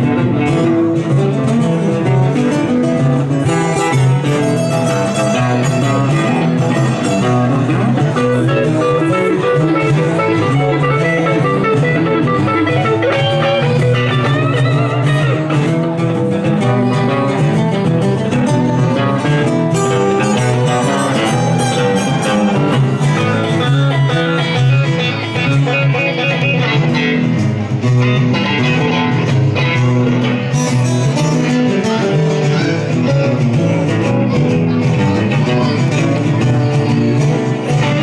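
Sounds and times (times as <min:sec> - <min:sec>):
acoustic guitars playing: 0:00.0 - 0:38.0
electric guitar playing: 0:00.0 - 0:38.0.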